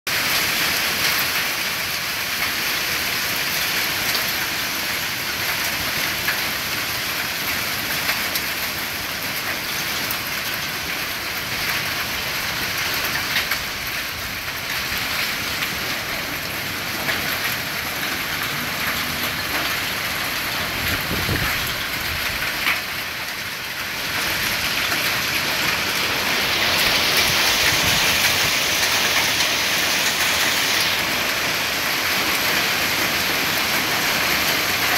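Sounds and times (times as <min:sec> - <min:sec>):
hailstones ticking: 0:00.1 - 0:34.9
heavy rain on lawn: 0:00.1 - 0:34.9.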